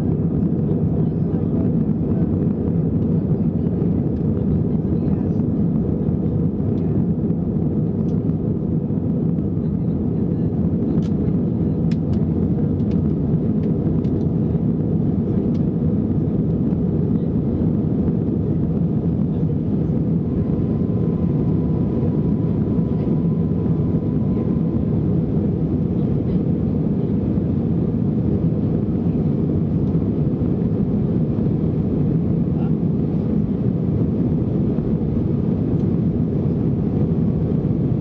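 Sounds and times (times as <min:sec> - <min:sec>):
aircraft cabin engine roar: 0:00.0 - 0:38.0
faint steady whine: 0:00.0 - 0:38.0.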